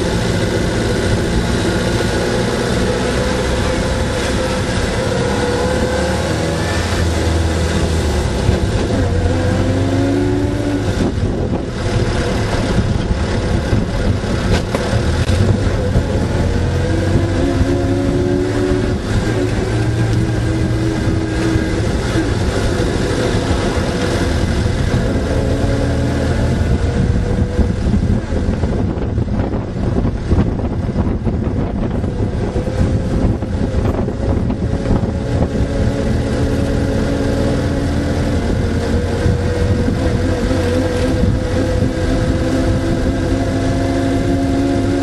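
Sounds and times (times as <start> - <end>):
car engine and drivetrain whine: 0.0 - 45.0.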